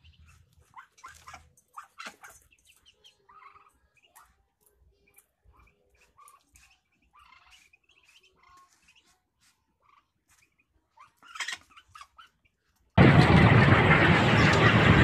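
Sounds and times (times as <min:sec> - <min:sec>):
ducklings peeping: 0:00.0 - 0:12.9.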